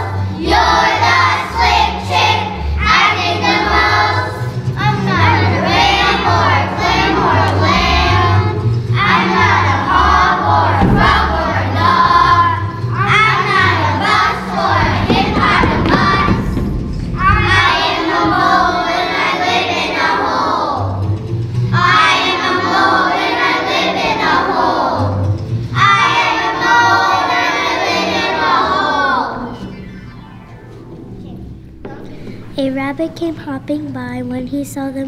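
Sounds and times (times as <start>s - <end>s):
children singing: 0.0s - 21.1s, 21.7s - 29.8s.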